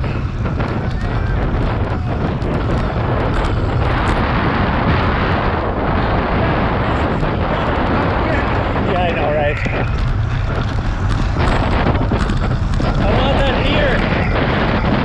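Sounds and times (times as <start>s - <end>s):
bicycle clicks and rattles: 0.0s - 15.0s
wind rushing over microphone: 0.0s - 15.0s.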